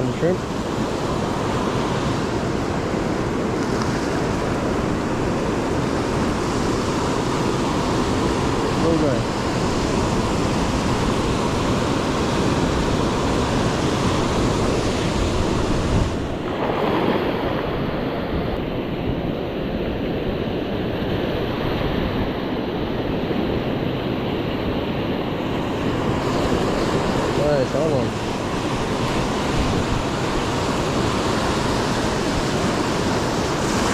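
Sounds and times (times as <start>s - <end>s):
ocean surf breaking: 0.0s - 33.9s
wind buffeting microphone: 0.0s - 33.9s.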